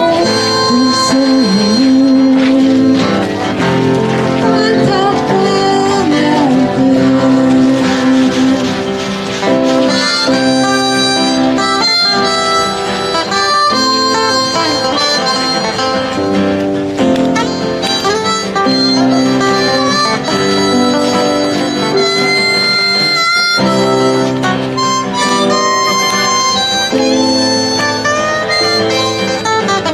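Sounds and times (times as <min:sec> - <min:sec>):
guitar accompaniment: 0:00.0 - 0:29.9.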